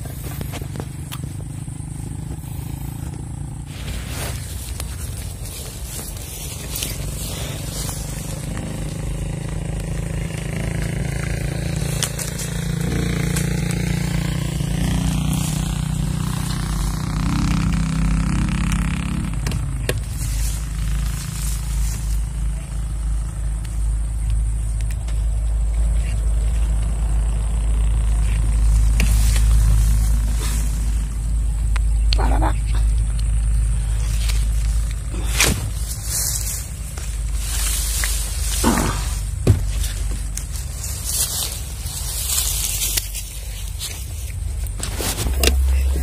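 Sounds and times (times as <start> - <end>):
engine revving: 0.0 - 46.0.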